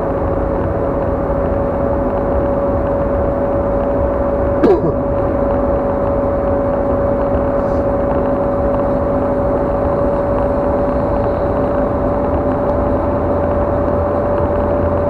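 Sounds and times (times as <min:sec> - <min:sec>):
constant hum-like tone: 0:00.0 - 0:15.0.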